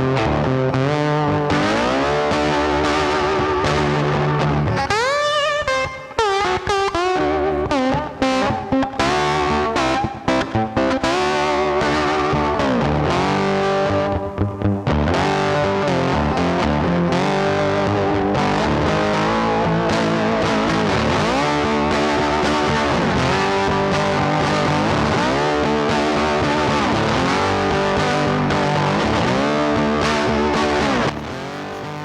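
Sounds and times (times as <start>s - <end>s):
distorted electric guitar music: 0.0s - 32.0s.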